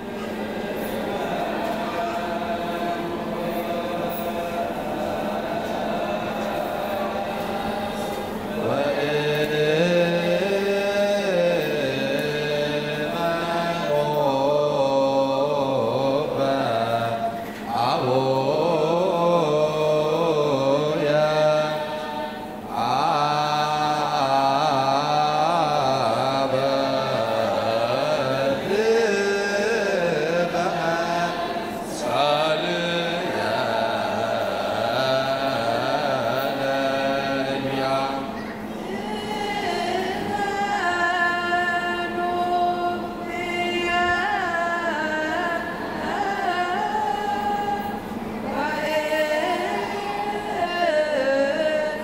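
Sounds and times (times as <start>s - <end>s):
choir chanting a hymn: 0.0s - 52.0s.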